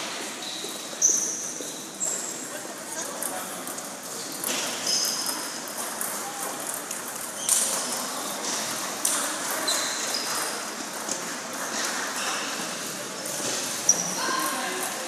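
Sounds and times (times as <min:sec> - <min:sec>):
crowd chatter: 0:00.0 - 0:15.0.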